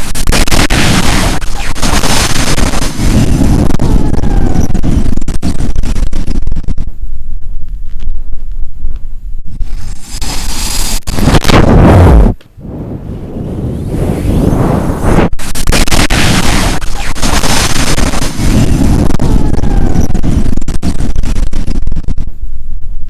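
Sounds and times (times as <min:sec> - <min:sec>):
hard wind buffeting microphone: 0:00.0 - 0:23.0.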